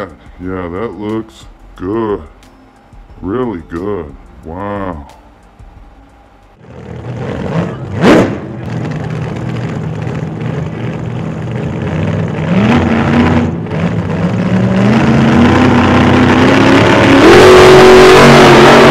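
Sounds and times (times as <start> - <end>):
car engine accelerating: 3.0 - 18.9.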